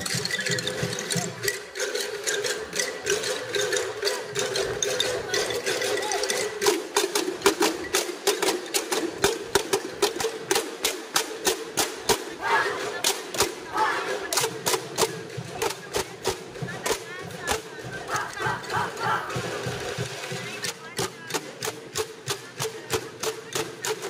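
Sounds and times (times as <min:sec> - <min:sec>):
bamboo tubes struck with sticks: 0:00.0 - 0:19.4, 0:20.1 - 0:24.0.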